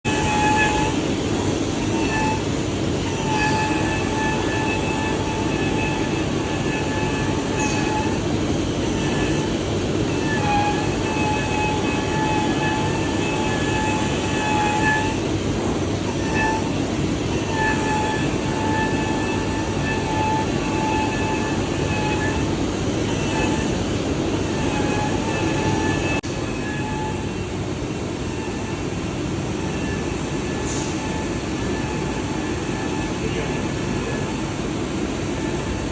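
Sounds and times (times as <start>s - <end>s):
fabric cutting machine whining: 0.1s - 35.9s.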